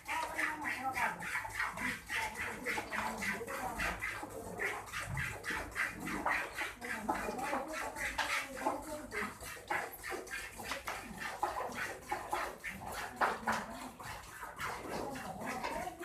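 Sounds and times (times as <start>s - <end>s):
milk squirting: 0.0s - 16.0s.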